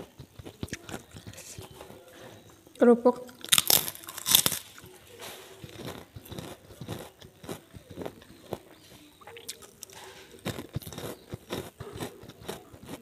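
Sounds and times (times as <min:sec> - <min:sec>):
crunchy crackers being chewed: 0:00.0 - 0:02.5, 0:03.2 - 0:13.0.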